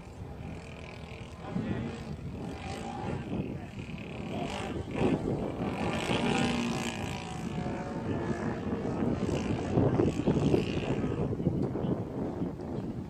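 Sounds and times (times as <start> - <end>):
model airplane engine and propeller: 0.0 - 13.0.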